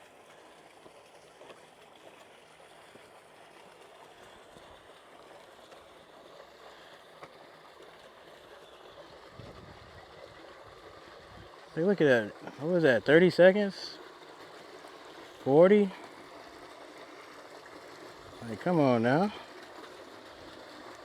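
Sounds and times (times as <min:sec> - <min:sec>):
flowing water: 0:00.0 - 0:21.0.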